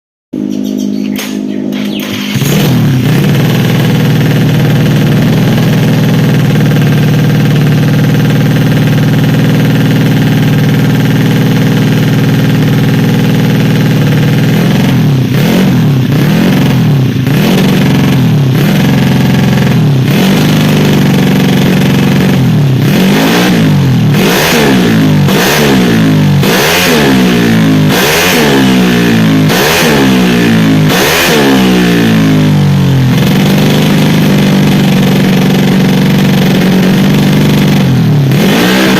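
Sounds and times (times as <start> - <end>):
scooter engine idling and revving: 0.4 - 38.9.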